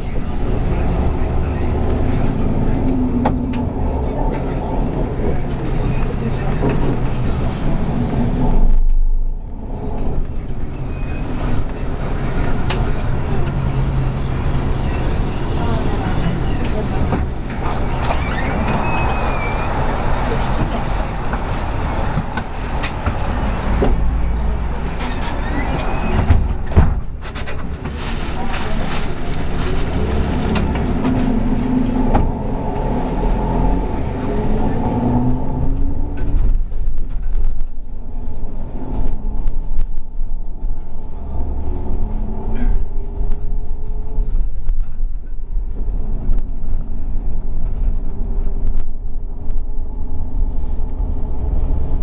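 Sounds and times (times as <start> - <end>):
bus engine drone: 0.0 - 52.0
road and tyre noise: 0.0 - 52.0.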